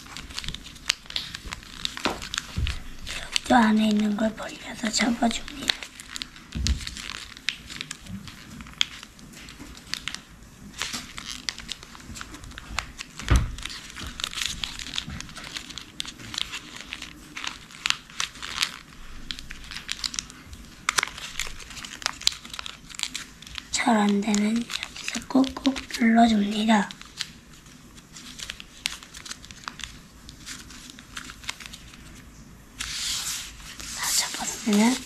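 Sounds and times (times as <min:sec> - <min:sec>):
paper rustling and crinkling: 0:00.0 - 0:35.0.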